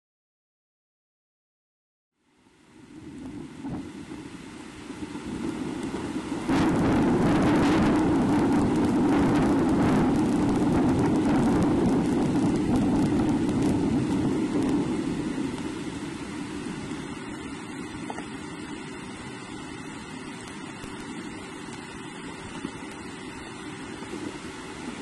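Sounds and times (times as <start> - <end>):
rain and wind hiss: 2.2 - 25.0.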